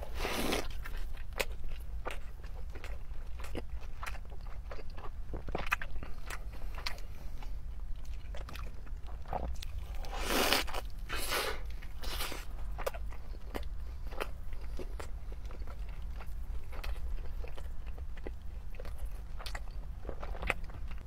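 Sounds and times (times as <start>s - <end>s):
chewing with wet mouth smacks: 0.4s - 21.0s.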